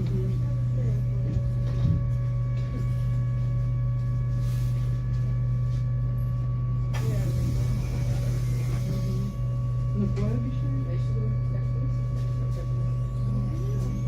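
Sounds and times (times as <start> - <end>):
low electrical hum with tones: 0.0 - 14.0.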